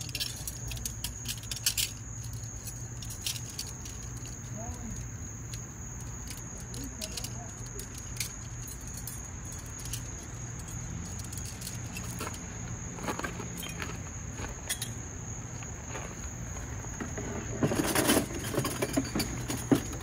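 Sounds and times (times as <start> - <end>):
scrap copper clicking and rattling: 0.0 - 14.0, 17.6 - 20.0.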